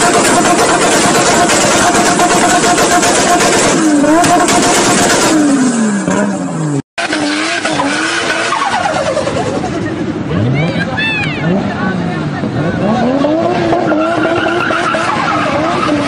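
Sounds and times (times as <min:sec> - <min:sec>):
car engine revving: 0:00.0 - 0:16.0
tyres skidding: 0:00.0 - 0:16.0.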